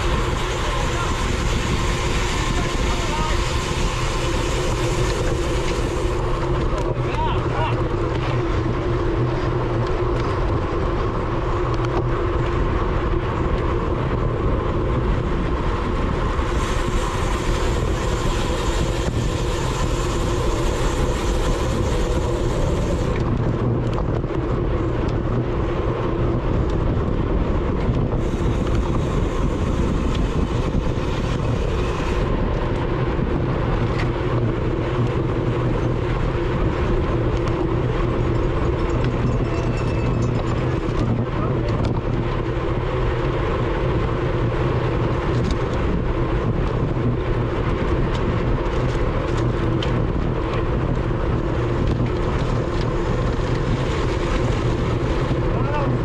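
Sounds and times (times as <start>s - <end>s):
wind and road rush: 0.0s - 56.0s.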